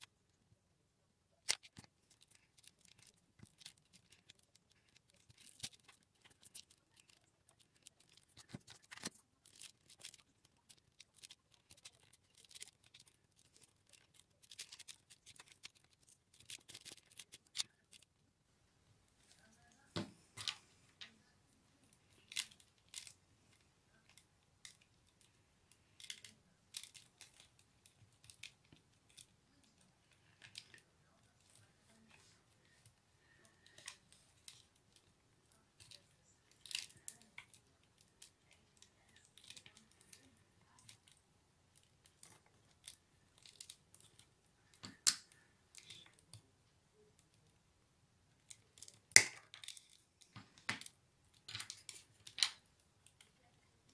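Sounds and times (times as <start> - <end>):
paper tubes clicking and crackling: 0.0 - 0.6, 1.2 - 18.3, 19.1 - 47.7, 48.3 - 53.9.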